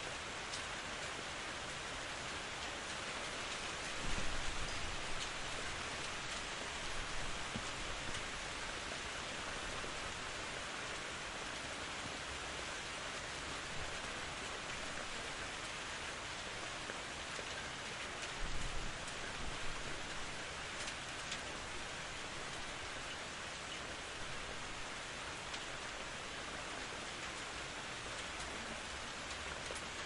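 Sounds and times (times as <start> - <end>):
steady rain hissing: 0.0 - 30.0.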